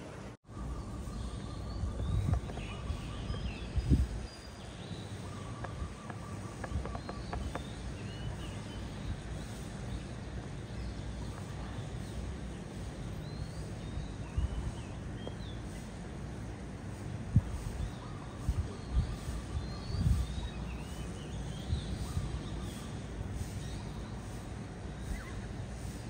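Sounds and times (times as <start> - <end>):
steady low rumble: 0.0 - 26.0
small birds chirping: 0.4 - 26.0.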